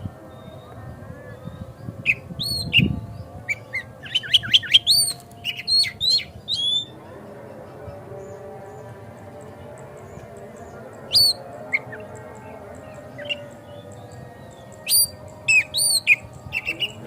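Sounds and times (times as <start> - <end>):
magpie-robin singing: 0.3 - 17.0.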